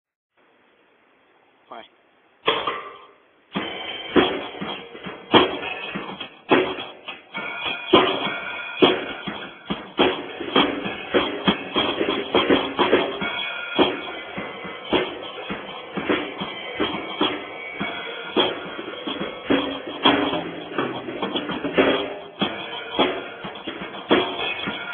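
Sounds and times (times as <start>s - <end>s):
drum kit solo: 2.4s - 24.9s.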